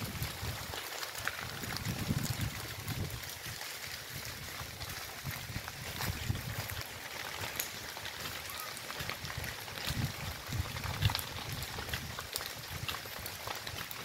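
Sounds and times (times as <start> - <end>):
grass fire crackling: 0.0 - 14.0.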